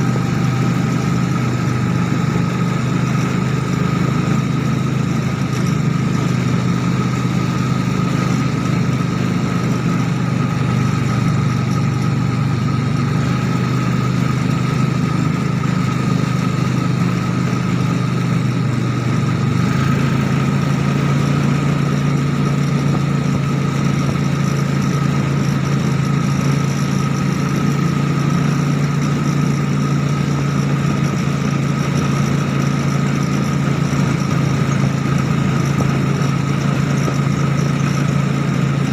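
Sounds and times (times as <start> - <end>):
motorcycle engine running at low revs: 0.0 - 38.9.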